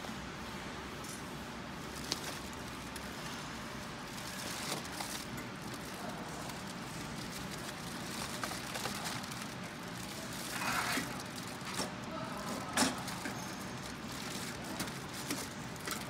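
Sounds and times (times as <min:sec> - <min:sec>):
foil duct crinkling and scraping: 0:01.8 - 0:16.0.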